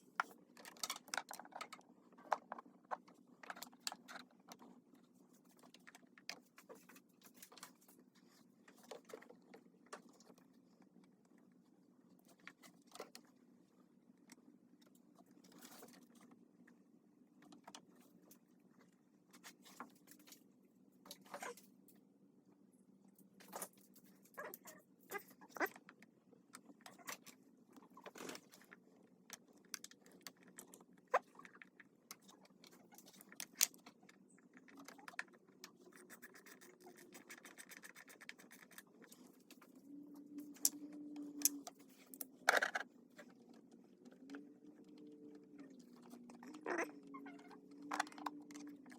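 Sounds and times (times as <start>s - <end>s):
faint low hum: 0.0s - 48.9s.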